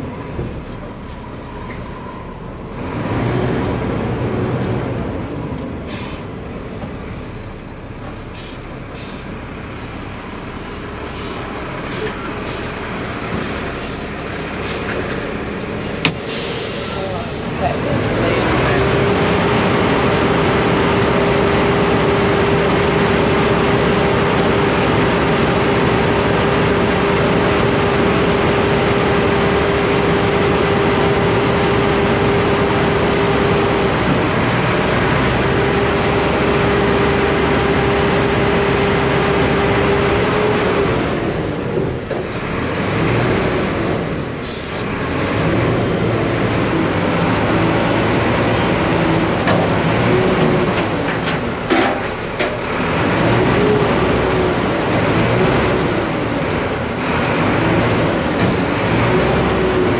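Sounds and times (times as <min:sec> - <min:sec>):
diesel engine at raised revs: 0:00.0 - 0:59.9.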